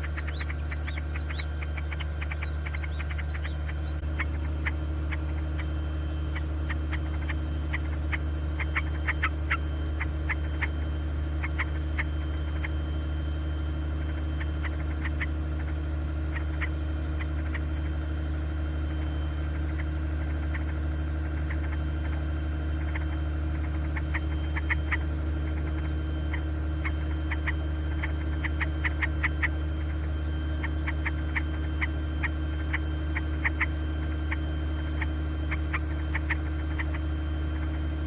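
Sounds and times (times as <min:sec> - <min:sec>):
nestling birds chirping: 0:00.0 - 0:38.0
steady low hum: 0:00.0 - 0:38.0.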